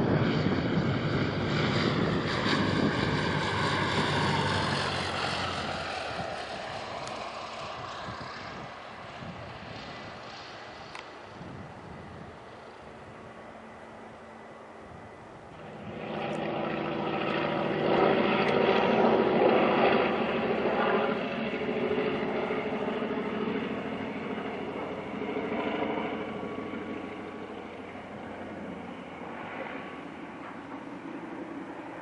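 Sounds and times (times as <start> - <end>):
propeller aircraft passing: 0.0 - 32.0.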